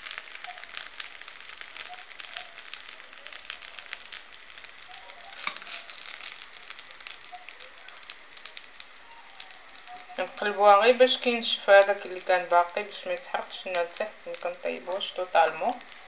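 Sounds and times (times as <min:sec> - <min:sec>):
oil sizzling with crackling pops: 0:00.0 - 0:16.0.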